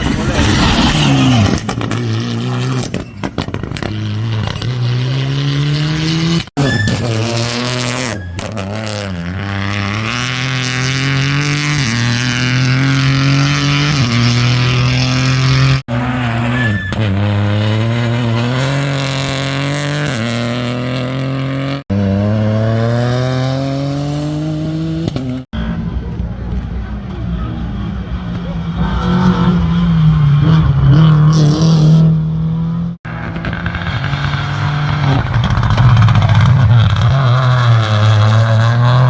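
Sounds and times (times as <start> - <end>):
rally car engines accelerating: 0.0 - 39.0.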